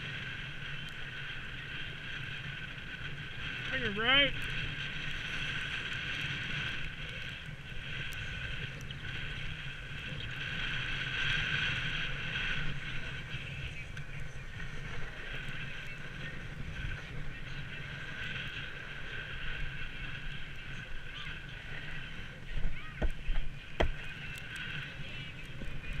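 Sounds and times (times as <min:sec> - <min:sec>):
skis scraping over snow: 0:00.0 - 0:26.0
wind on microphone: 0:00.0 - 0:26.0.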